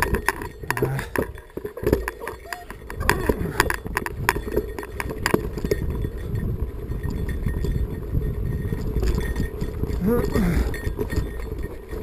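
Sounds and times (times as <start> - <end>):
bike clattering over rocks: 0.0 - 12.0
tyres rumbling on dirt: 0.0 - 12.0.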